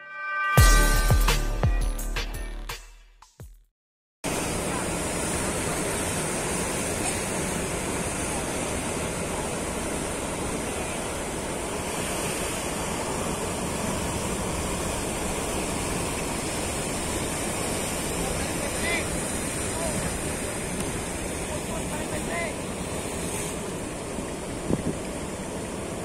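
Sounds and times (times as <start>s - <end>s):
ocean waves breaking on shore: 4.2s - 26.0s.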